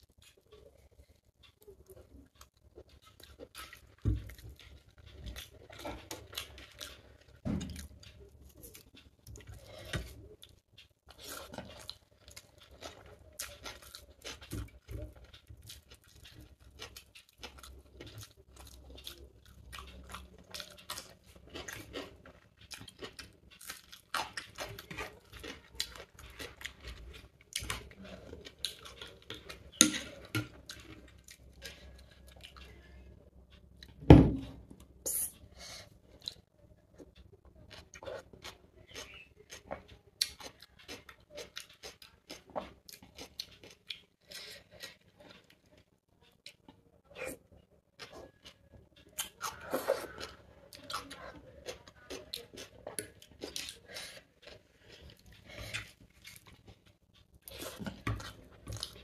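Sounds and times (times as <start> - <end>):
chewing food: 0.0 - 59.0.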